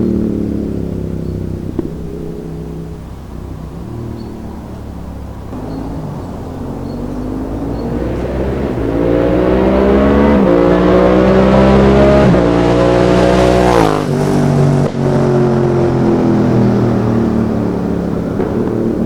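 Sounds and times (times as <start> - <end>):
motorcycle accelerating past: 0.0 - 19.0.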